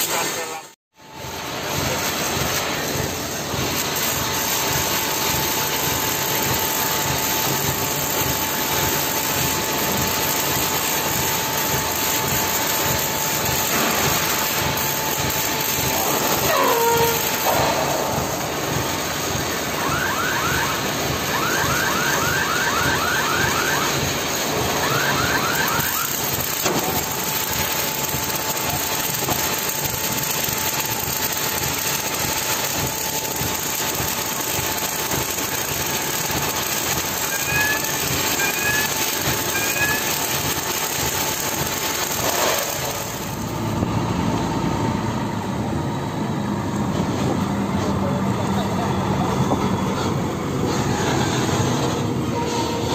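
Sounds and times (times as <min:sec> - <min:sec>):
thin steady whine: 0:00.0 - 0:52.9
mechanical din: 0:01.2 - 0:44.0.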